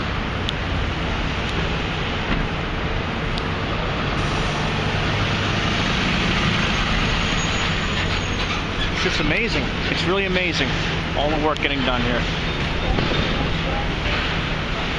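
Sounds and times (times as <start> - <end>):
low engine hum: 0.0 - 14.9
street traffic: 0.0 - 14.9.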